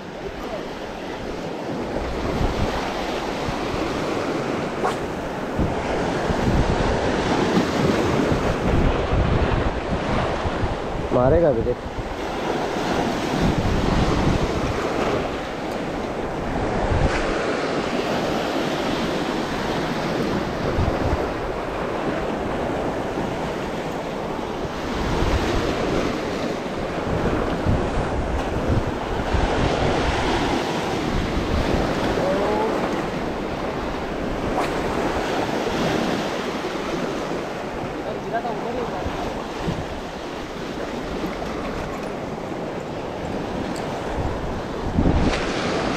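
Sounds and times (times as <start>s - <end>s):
sea waves breaking on rocks: 0.0s - 45.9s
wind buffeting microphone: 0.0s - 45.9s.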